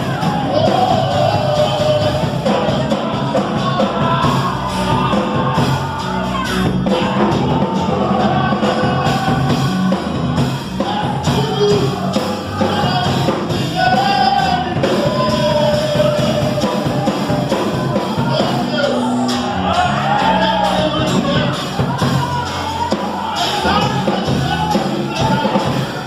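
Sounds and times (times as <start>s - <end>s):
band accompaniment with bass: 0.0s - 26.0s
person singing gospel hymn: 0.0s - 26.0s.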